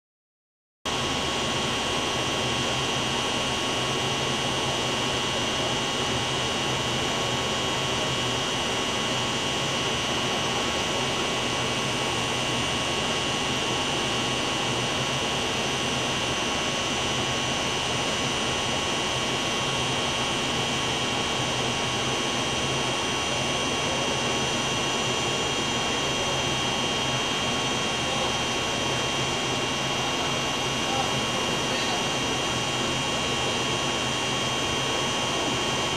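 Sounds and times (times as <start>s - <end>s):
high machine whine: 0.9s - 35.9s
machinery rushing hum: 0.9s - 35.9s.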